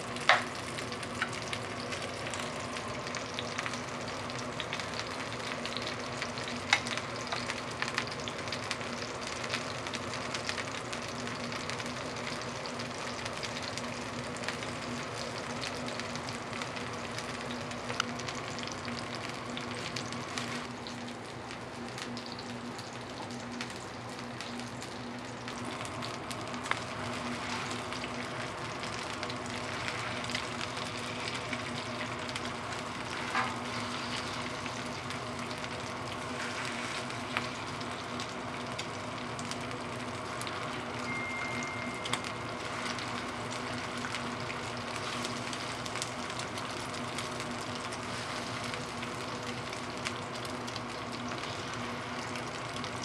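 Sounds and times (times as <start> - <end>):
low steady hum: 0.0 - 53.0
pancakes sizzling in oil: 0.0 - 53.0.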